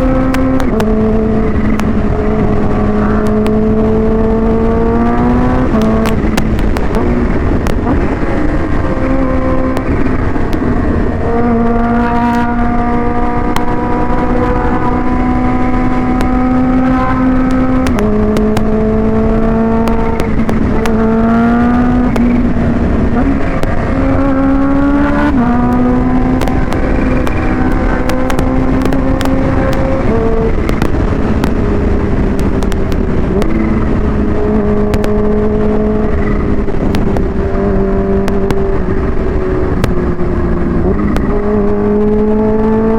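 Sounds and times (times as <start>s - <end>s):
motorcycle engine revving: 0.0s - 42.9s
wind noise on microphone: 0.0s - 42.9s.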